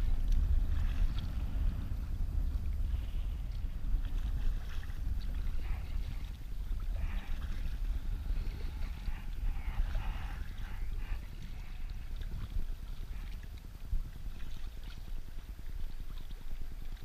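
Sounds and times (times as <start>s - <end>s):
paddle splashing in water: 0.0s - 17.0s
wind rumble on microphone: 0.0s - 17.0s.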